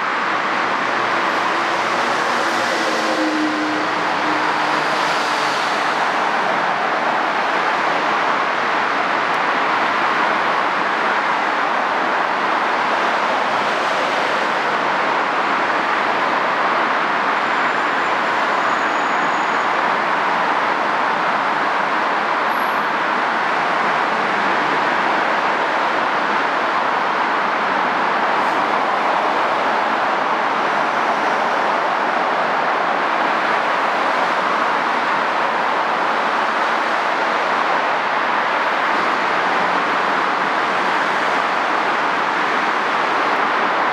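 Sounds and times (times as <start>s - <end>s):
heavy road traffic roar: 0.0s - 43.9s.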